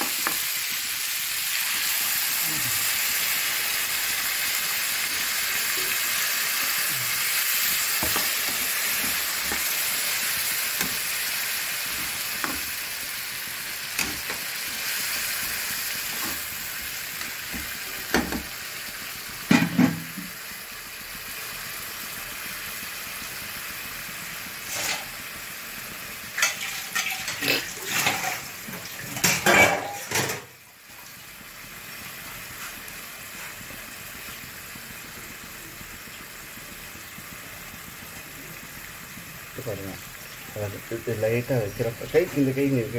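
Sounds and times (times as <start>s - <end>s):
curry sizzling in a pan: 0.0s - 42.9s.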